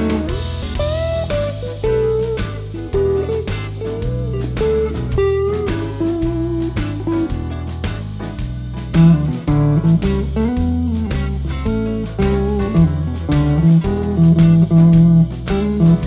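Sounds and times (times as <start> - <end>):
blues shuffle backing track: 0.0 - 16.0
electric guitar blues licks: 0.0 - 16.0.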